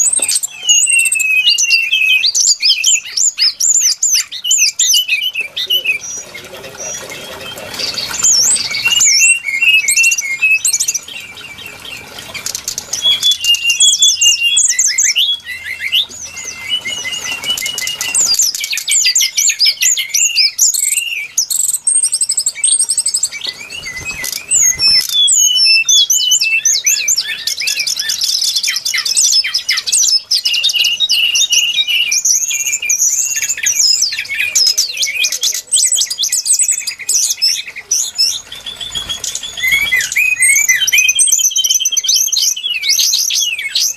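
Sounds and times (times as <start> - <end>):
bird chirping and trilling: 0.0 - 43.9.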